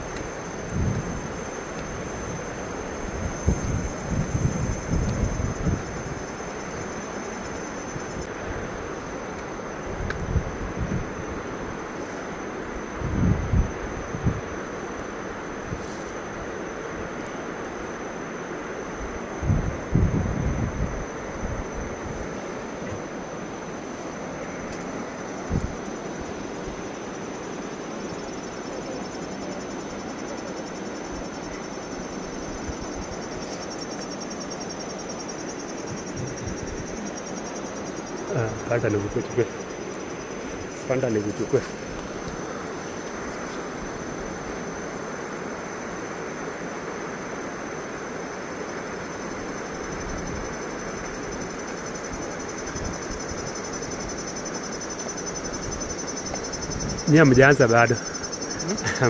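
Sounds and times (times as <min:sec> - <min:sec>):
insect trill: 0:00.0 - 0:59.0.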